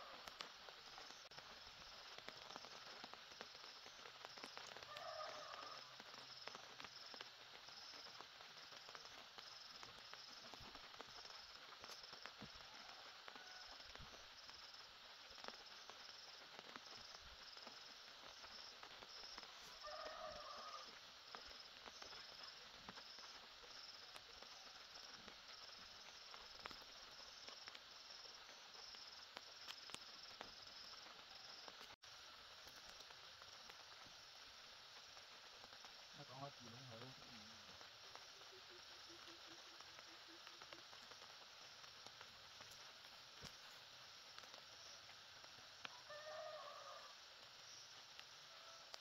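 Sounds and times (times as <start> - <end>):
light rain hissing: 0.0 - 49.0.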